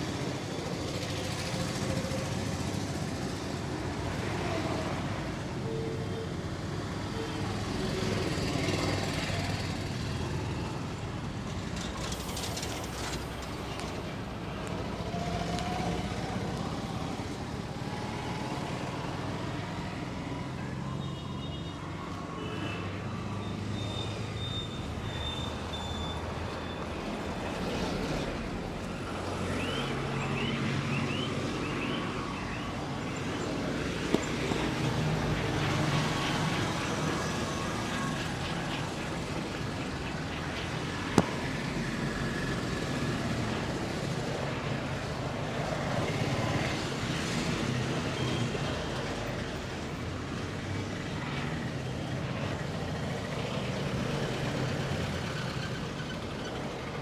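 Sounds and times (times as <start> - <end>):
street traffic noise: 0.0 - 57.0.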